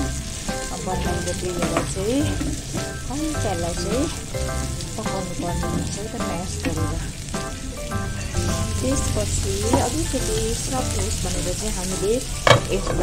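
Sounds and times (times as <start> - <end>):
background music: 0.0 - 13.0
food sizzling in frying pan: 0.0 - 13.0.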